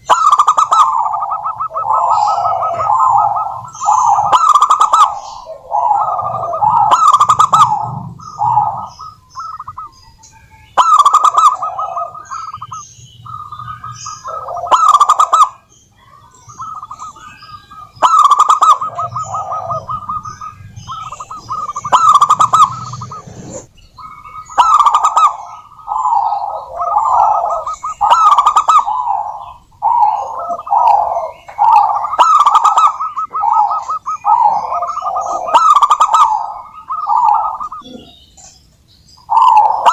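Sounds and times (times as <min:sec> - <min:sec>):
doves cooing: 0:00.0 - 0:38.6, 0:39.2 - 0:39.9.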